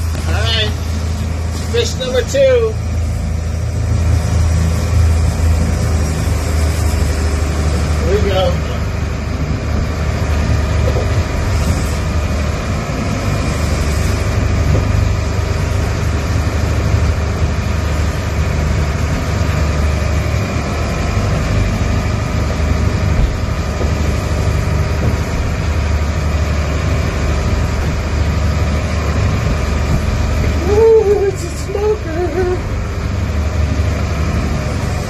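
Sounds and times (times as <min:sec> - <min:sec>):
boat engine rumbling: 0:00.0 - 0:35.0
rushing wind and water: 0:00.0 - 0:35.0.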